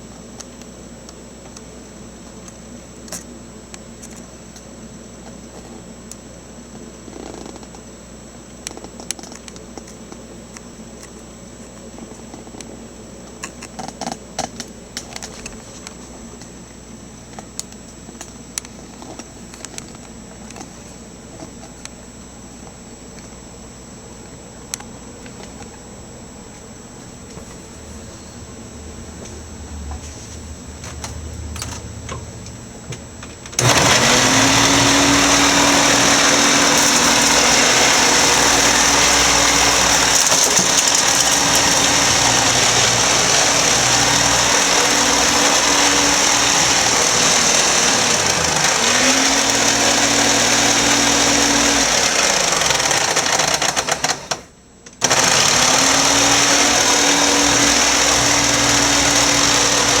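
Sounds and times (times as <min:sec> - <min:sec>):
vacuum cleaner motor whine: 0:00.0 - 1:00.0.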